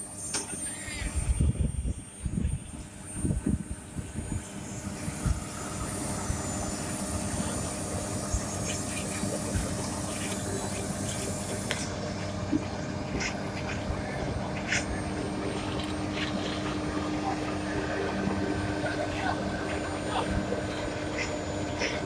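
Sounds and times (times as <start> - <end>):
diesel engine running: 0.7 - 22.0.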